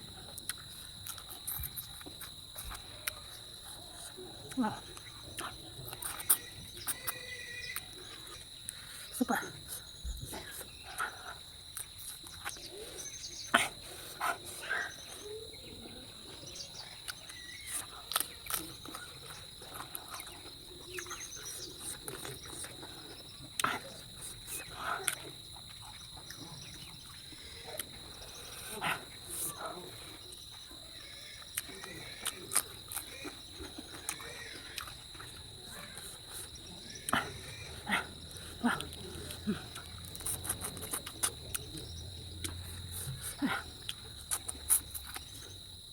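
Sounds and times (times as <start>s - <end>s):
crickets chirring: 0.0s - 45.9s
chewing and lip smacks: 0.1s - 15.4s, 16.2s - 30.8s, 31.4s - 45.6s.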